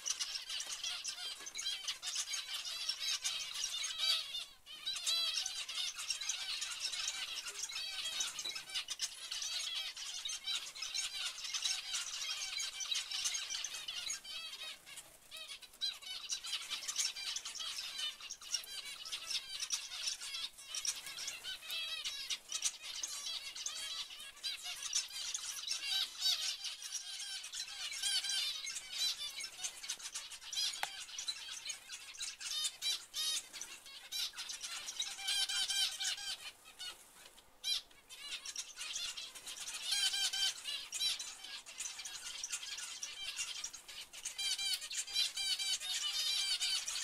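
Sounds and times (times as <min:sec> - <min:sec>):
finches chirping: 0:00.0 - 0:47.0.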